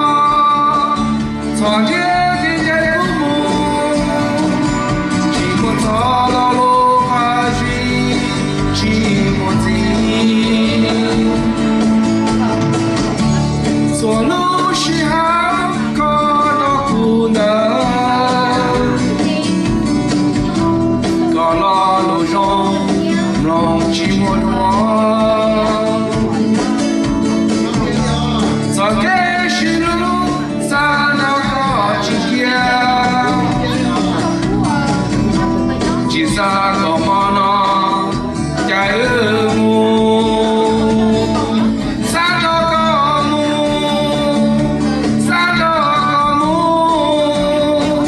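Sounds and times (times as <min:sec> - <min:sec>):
instrumental backing music: 0:00.0 - 0:48.0
man singing through pa: 0:00.0 - 0:48.0.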